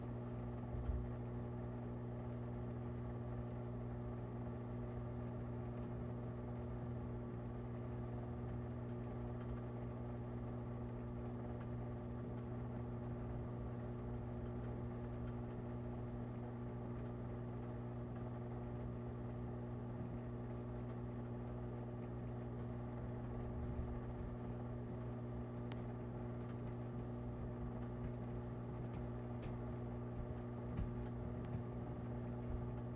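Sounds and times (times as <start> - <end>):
steady mechanical hum: 0.0 - 32.9.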